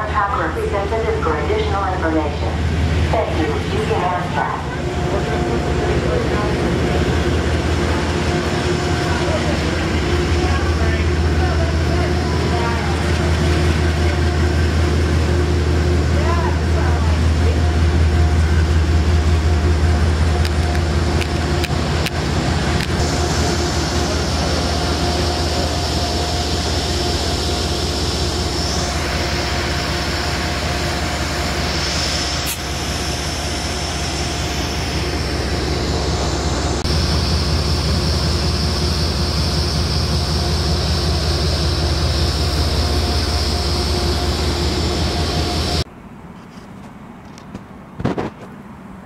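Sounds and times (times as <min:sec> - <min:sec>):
constant whine: 0:00.0 - 0:48.5
diesel engine rumble: 0:00.0 - 0:49.0.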